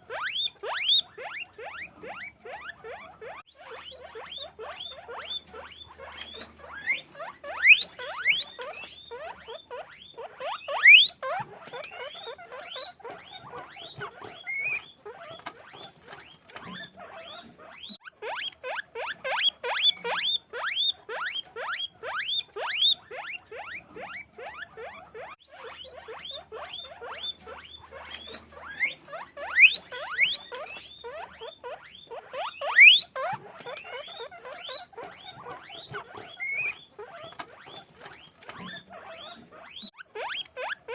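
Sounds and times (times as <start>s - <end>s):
guinea pigs squeaking: 0.0s - 40.9s.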